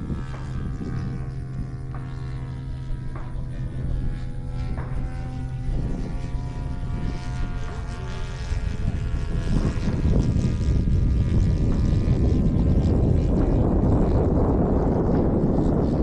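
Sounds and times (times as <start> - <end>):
model airplane engine buzzing: 0.0 - 16.0
wind rumble on microphone: 0.0 - 16.0.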